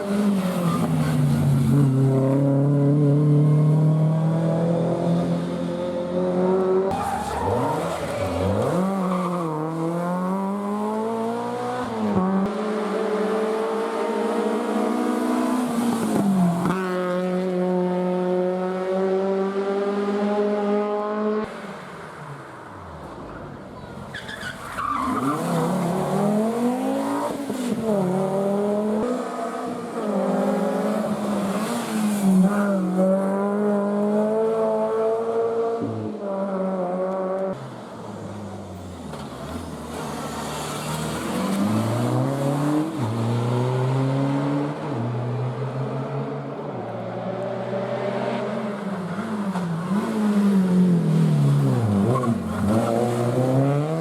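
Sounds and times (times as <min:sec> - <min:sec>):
rally car engines revving: 0:00.0 - 0:21.9, 0:24.0 - 0:54.0.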